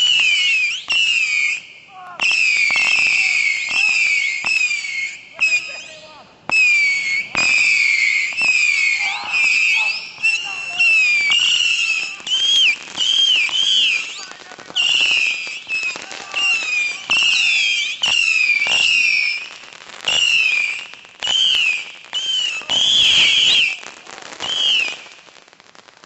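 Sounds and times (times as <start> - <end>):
firework cracks: 0.0 - 26.0
whistling firework shots: 0.0 - 26.0.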